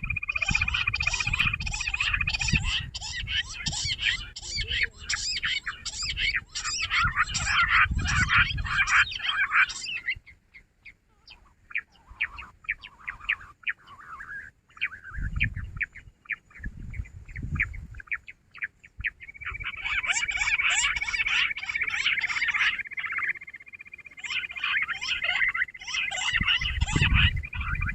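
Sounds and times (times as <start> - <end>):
quail chirping: 0.0 - 27.9.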